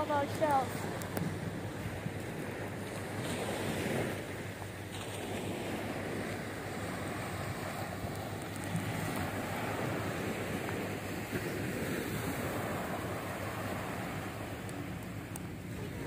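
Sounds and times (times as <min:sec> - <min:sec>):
small waves on sandy shore: 0:00.0 - 0:16.0
wind rumbling on microphone: 0:00.0 - 0:16.0.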